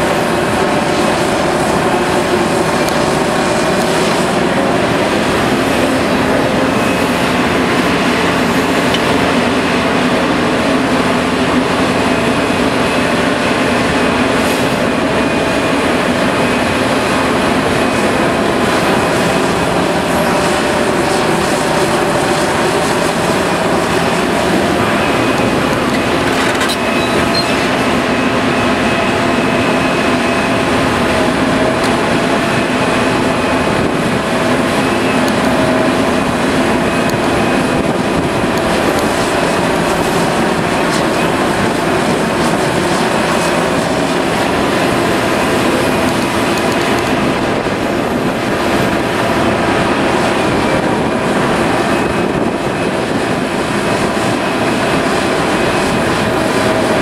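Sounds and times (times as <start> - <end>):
excavator engine and hydraulics drone: 0.0 - 57.0
whining tones: 0.0 - 57.0.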